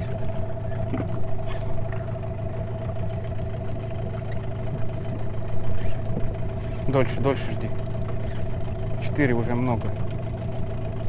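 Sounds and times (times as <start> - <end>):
constant motor whine: 0.0 - 11.0
outboard motor idling: 0.0 - 11.0.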